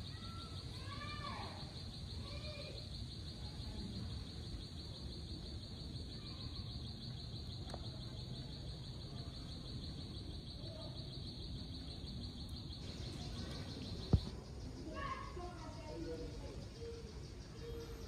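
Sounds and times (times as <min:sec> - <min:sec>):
insects trilling: 0:00.0 - 0:18.0
outdoor background noise: 0:00.0 - 0:18.0.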